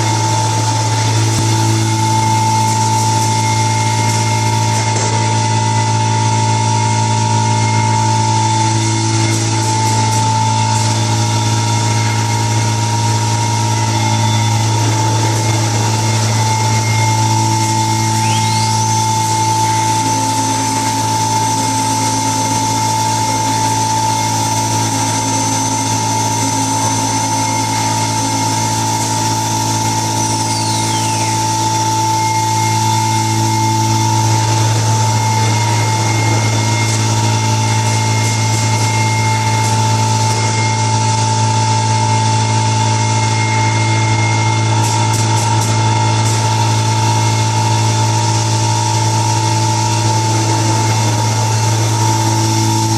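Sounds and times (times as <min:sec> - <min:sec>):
high spindle whine: 0:00.0 - 0:52.9
machine hum: 0:00.0 - 0:52.9.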